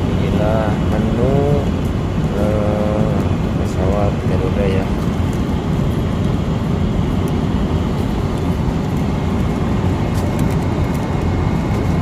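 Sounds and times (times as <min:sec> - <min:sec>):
jet airliner cabin noise: 0:00.0 - 0:12.0.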